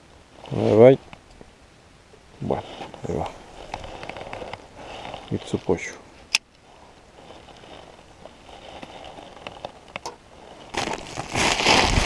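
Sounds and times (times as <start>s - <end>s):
rustling and crinkling: 0.0s - 1.5s, 2.1s - 12.0s.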